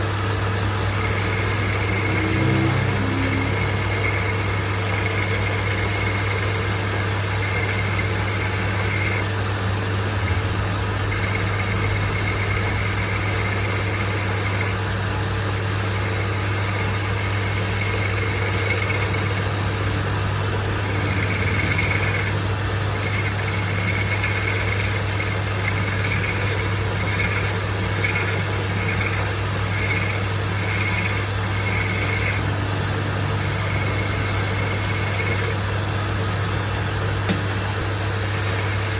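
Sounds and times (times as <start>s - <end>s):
lathe high whine: 0.0s - 38.9s
lathe humming: 0.0s - 38.9s.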